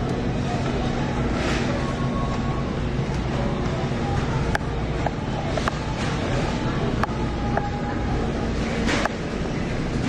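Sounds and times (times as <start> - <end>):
shopping cart rolling: 0.4 - 4.4, 5.3 - 10.0.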